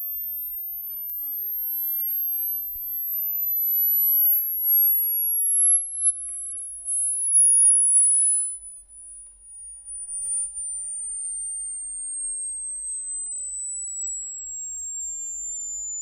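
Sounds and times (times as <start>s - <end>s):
high sine tone sweeping down: 0.0s - 16.0s.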